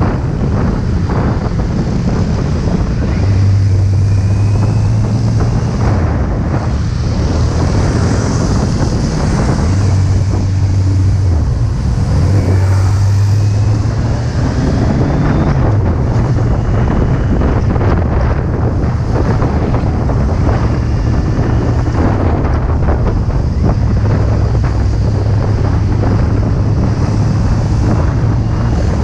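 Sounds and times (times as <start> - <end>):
motorcycle engine humming: 0.0 - 29.0
wind noise on microphone: 0.0 - 29.0.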